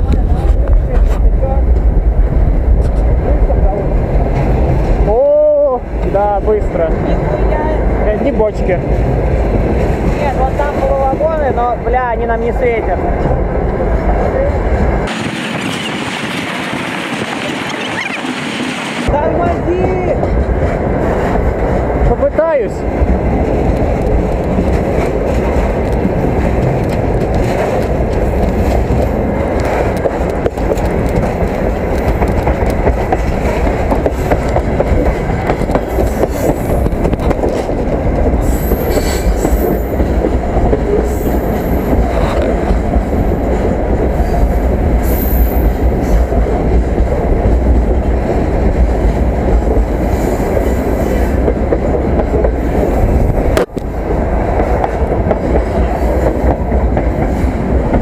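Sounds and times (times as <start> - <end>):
freight train rumbling on rails: 0.0 - 58.0.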